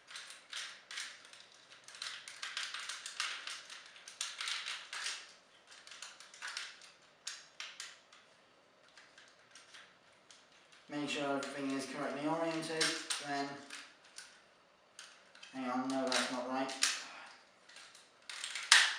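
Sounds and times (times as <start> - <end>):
plastic toy clicking and rattling: 0.0 - 18.9.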